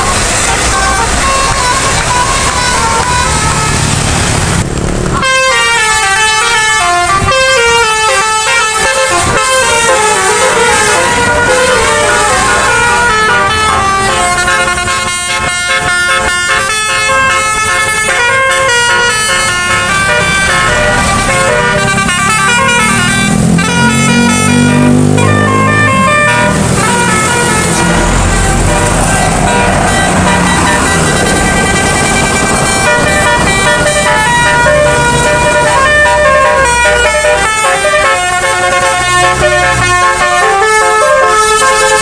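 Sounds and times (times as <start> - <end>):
musical air horn melody: 0.0 - 4.6, 5.2 - 42.0
bus engine: 0.0 - 42.0.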